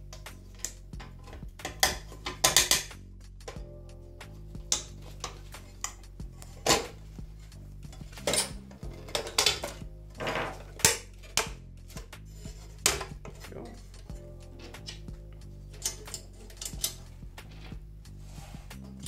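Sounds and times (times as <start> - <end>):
soft background music: 0.0 - 19.0
metallic knocks and clatter: 0.1 - 3.6, 4.6 - 17.8.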